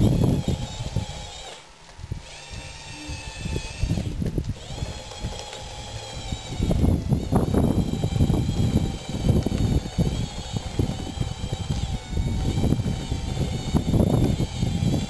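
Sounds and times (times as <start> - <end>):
faint electric motor whine: 0.0 - 15.0
wind buffeting microphone: 0.0 - 15.0.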